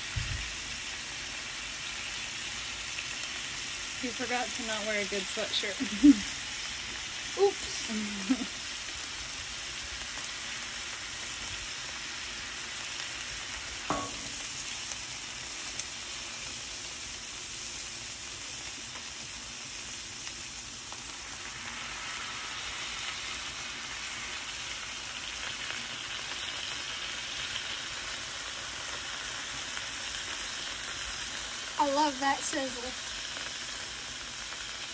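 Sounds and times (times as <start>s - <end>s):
meat sizzling on a griddle: 0.0s - 34.9s.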